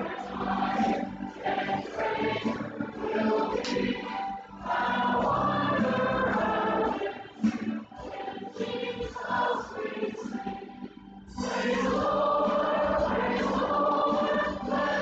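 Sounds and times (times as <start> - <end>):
group singing a hymn: 0.0 - 15.0.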